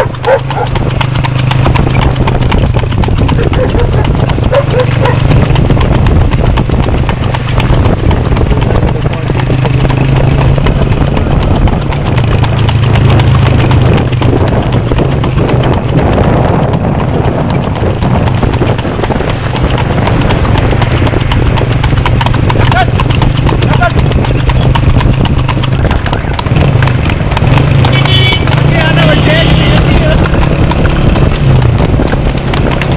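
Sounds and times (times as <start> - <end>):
hooves clip-clopping on asphalt: 0.0 - 32.9.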